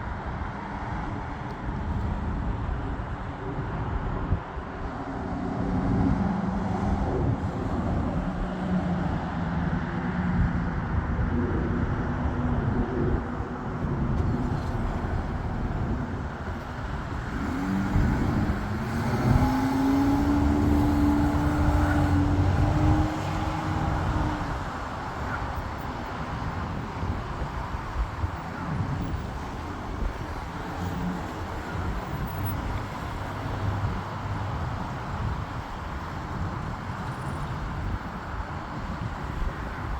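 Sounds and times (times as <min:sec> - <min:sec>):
constant rumble: 0:00.0 - 0:39.9.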